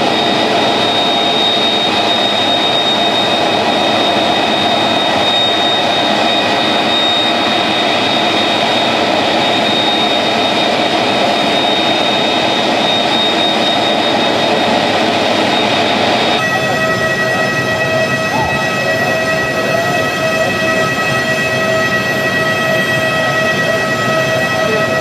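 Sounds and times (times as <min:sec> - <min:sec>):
jet engines idling: 0:00.0 - 0:25.0.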